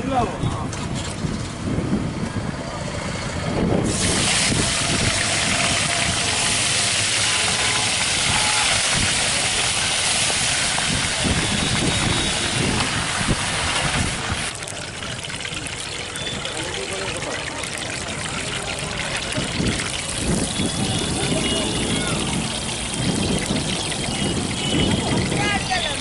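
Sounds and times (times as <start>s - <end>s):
fish sizzling in hot oil: 3.8s - 25.9s.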